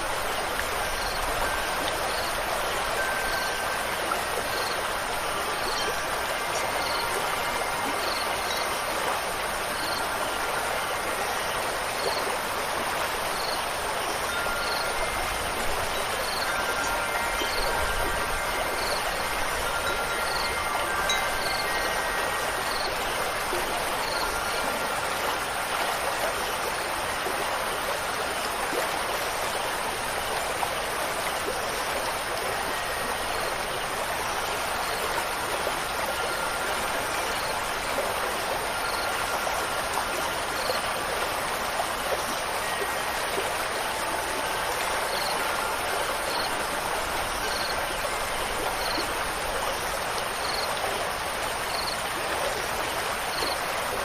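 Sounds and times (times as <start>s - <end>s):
stream water rushing: 0.0s - 54.0s
faint wind chime tones: 0.1s - 54.0s.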